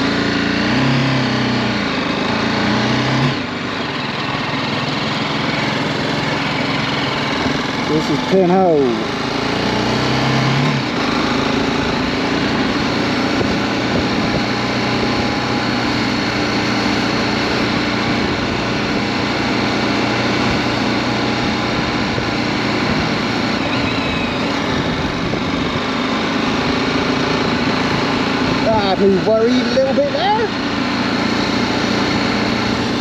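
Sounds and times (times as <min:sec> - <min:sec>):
motorcycle engine running steadily: 0:00.0 - 0:33.0.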